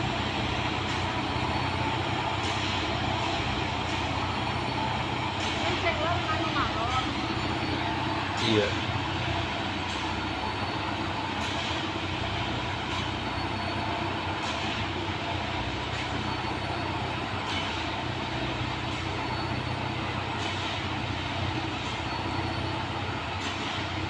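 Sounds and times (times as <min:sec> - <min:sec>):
track machine engine hum: 0:00.0 - 0:24.0.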